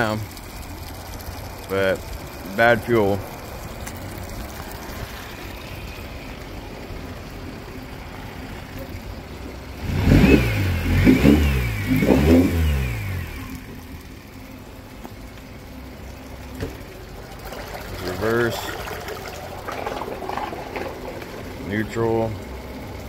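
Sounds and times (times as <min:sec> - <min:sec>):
outboard motor idling and revving: 0:00.0 - 0:23.0.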